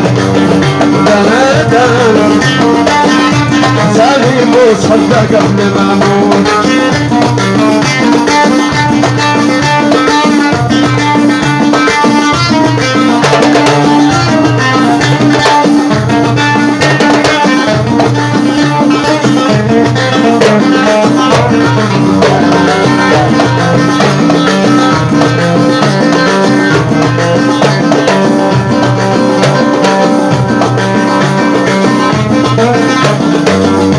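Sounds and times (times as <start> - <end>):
drums beating a steady rhythm: 0.0 - 33.9.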